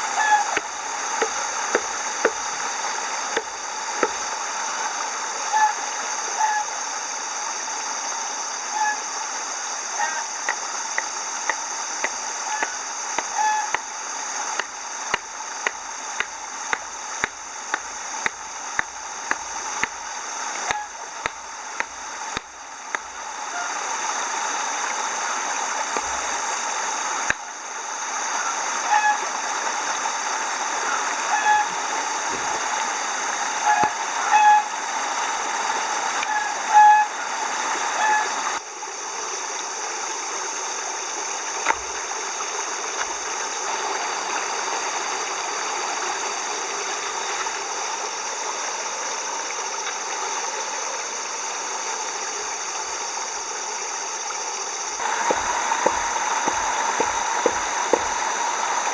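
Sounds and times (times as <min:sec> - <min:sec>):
running water: 0:00.0 - 0:58.9.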